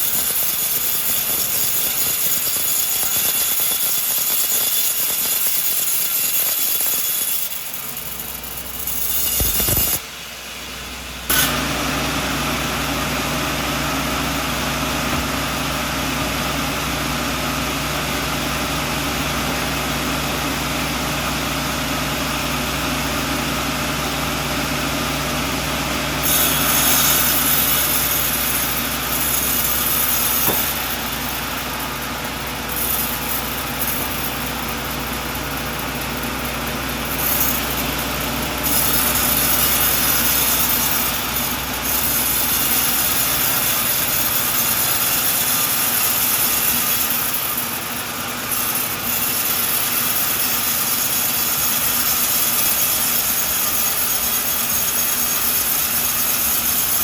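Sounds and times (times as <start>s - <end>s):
high-pitched saw cutting noise: 0.0s - 10.0s, 11.3s - 15.9s, 25.9s - 57.0s.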